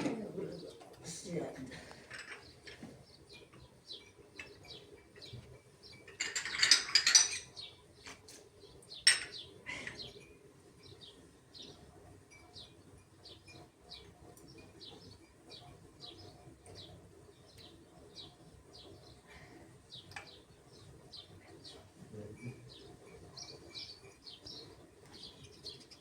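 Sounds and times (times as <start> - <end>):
small birds chirping: 0.2 - 6.2, 7.4 - 26.0.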